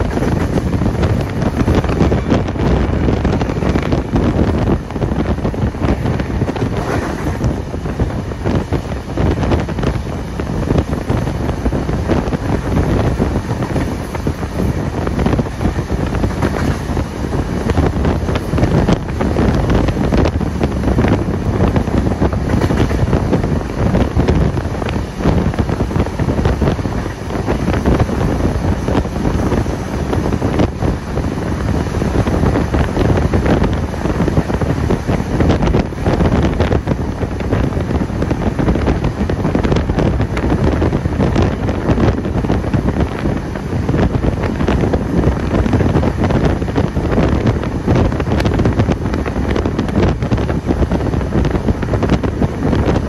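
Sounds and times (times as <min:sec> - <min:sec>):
train rumbling: 0:00.0 - 0:53.0
wind buffeting microphone: 0:00.0 - 0:53.0.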